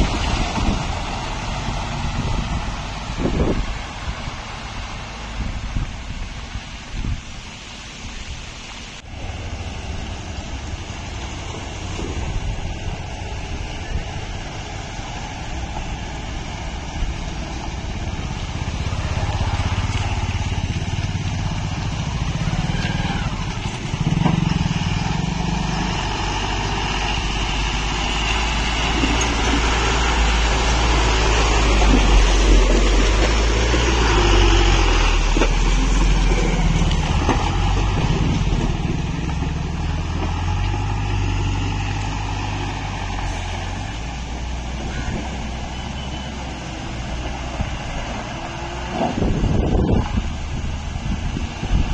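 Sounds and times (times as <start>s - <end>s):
diesel truck engine: 0.0s - 51.9s.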